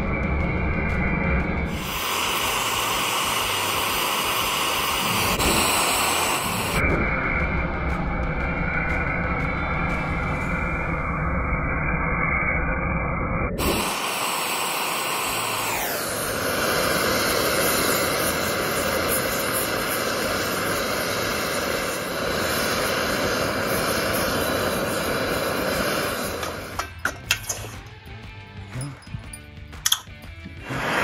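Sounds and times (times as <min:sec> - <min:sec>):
gas torch flame rushing: 0:00.0 - 0:27.8, 0:29.9 - 0:31.0.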